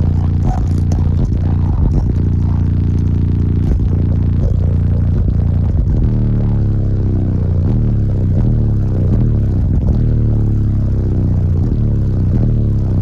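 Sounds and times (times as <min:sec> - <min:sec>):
rap music with deep bass: 0:00.0 - 0:13.0.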